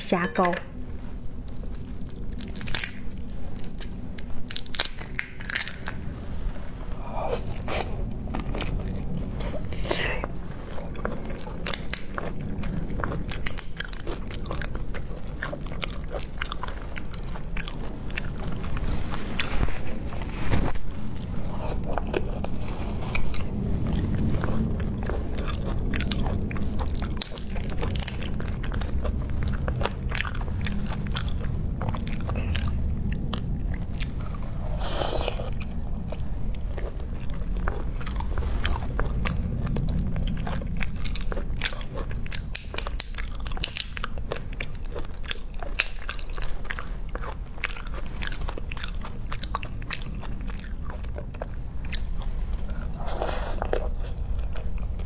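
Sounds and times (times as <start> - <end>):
steady low hum: 0.0 - 55.0
wet chewing and crunching: 0.1 - 55.0.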